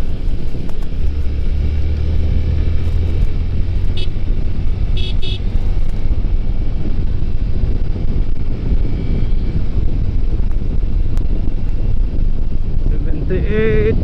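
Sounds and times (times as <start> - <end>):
wind and riding noise: 0.0 - 14.0.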